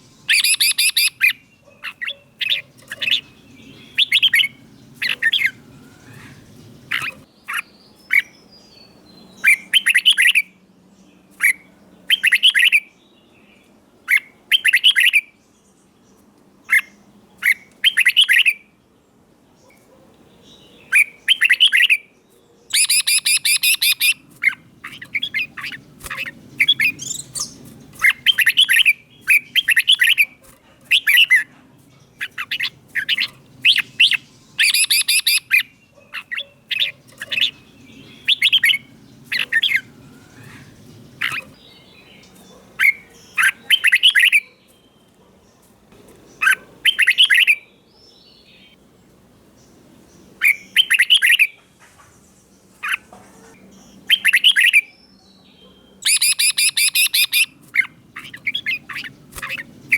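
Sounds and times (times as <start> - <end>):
bulbul chirping song: 0.0 - 10.7, 11.3 - 15.4, 16.2 - 18.7, 19.6 - 45.6, 46.3 - 48.8, 49.6 - 51.7, 52.5 - 59.9.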